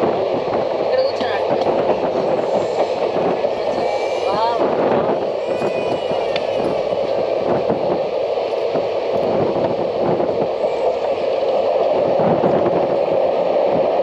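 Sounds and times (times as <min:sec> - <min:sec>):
train wheels running on rails: 0:00.0 - 0:14.0
wind buffeting microphone: 0:00.0 - 0:14.0.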